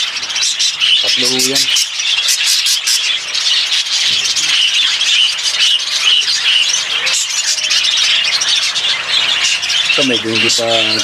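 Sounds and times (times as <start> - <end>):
budgerigars chattering: 0.0 - 11.0
sharp bird chirps: 0.0 - 11.0.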